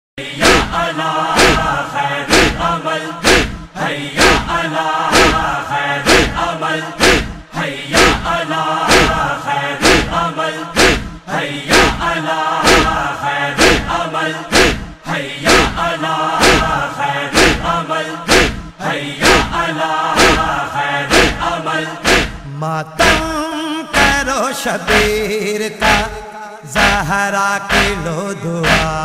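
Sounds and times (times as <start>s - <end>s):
rhythmic chest-beating: 0.2s - 26.2s, 26.8s - 29.0s
men chanting in unison: 0.2s - 29.0s.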